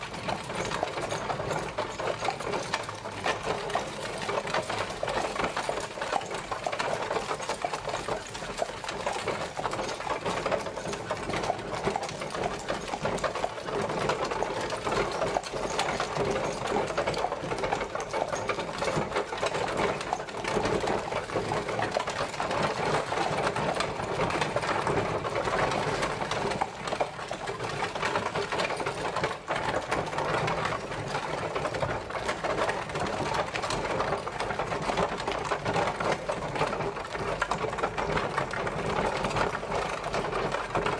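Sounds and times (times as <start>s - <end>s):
carriage wheels rattling: 0.0s - 40.9s.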